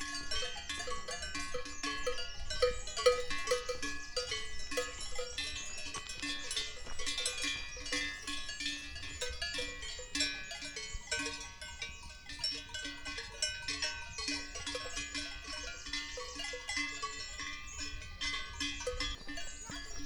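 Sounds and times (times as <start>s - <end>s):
livestock bells clanking: 0.0s - 20.0s.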